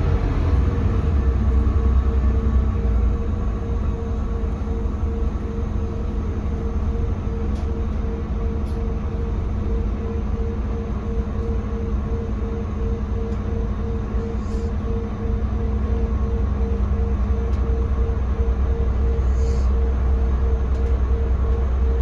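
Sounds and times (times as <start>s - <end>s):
bus diesel engine rumble: 0.0s - 22.0s.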